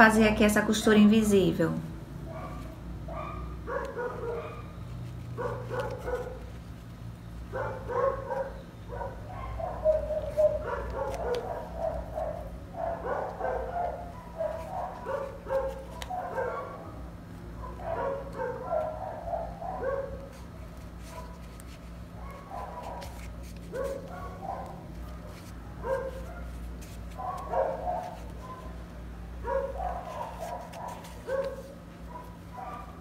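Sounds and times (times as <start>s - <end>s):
dog barking: 2.2s - 4.8s, 5.4s - 6.6s, 7.5s - 20.4s, 21.0s - 21.5s, 22.2s - 28.8s, 29.4s - 33.0s.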